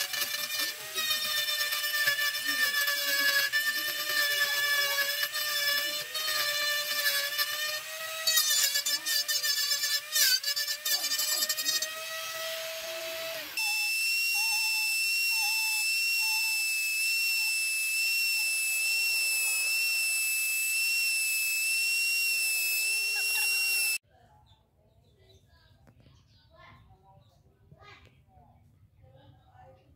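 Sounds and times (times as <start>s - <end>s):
rotary tool grinding wood: 0.0s - 24.0s.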